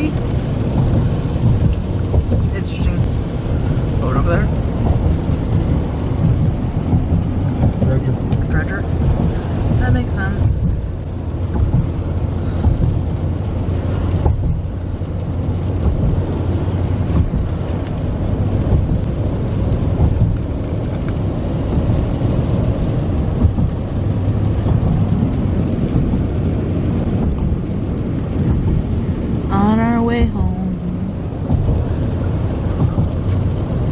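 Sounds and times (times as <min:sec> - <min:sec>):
road and engine rumble: 0:00.0 - 0:33.9.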